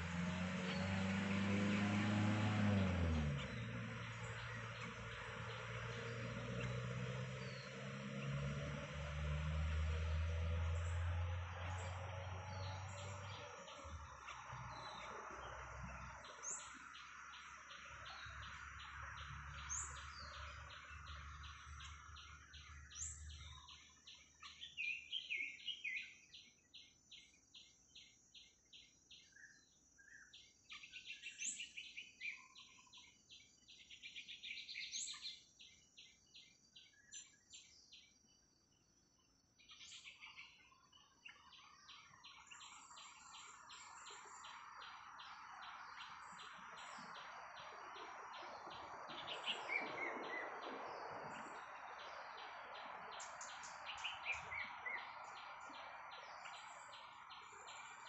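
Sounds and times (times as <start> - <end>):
songbirds chirping and warbling: 0.0 - 58.0.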